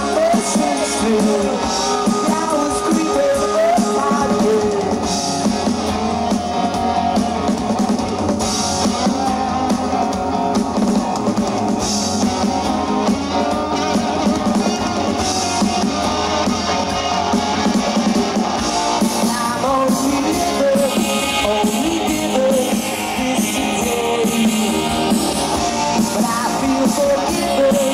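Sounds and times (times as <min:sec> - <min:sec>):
drum kit: 0:00.0 - 0:27.9
electric guitars: 0:00.0 - 0:27.9.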